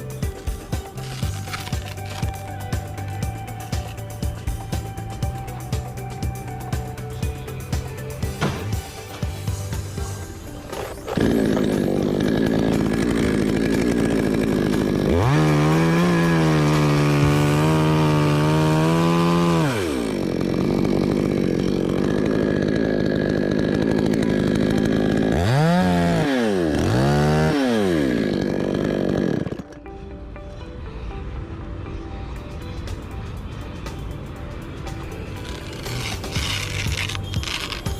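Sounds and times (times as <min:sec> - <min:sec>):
two-stroke chainsaw running: 0:00.0 - 0:29.8, 0:35.0 - 0:37.9.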